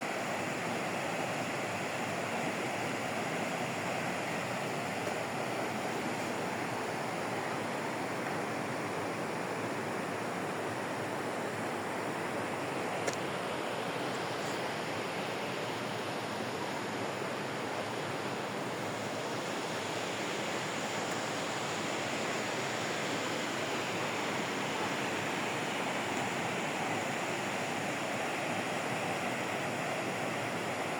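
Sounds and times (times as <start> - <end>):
water rushing: 0.0 - 30.9.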